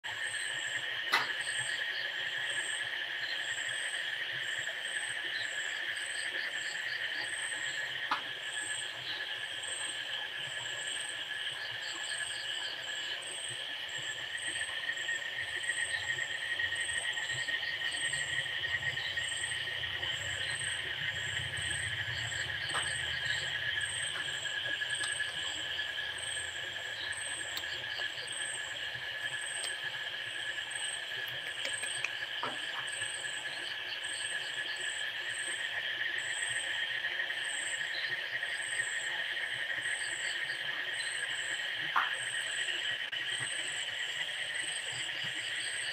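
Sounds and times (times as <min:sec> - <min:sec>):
crickets chirping: 0:00.1 - 0:45.9.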